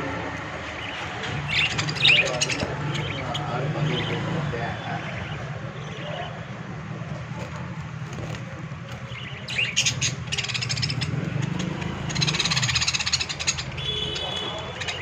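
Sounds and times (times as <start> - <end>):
birds chirping rapidly: 0.0 - 15.0.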